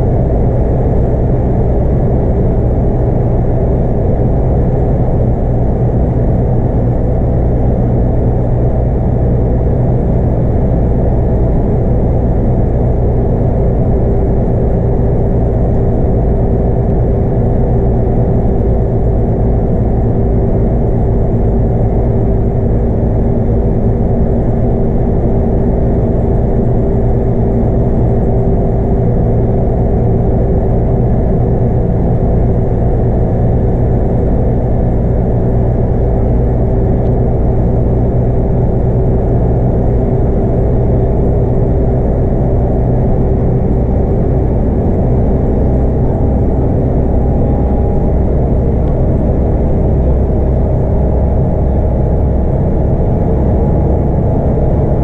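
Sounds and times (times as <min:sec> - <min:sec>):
bus diesel engine running: 0:00.0 - 0:55.0
deep road rumble: 0:00.0 - 0:55.0
steady whine: 0:00.0 - 0:55.0.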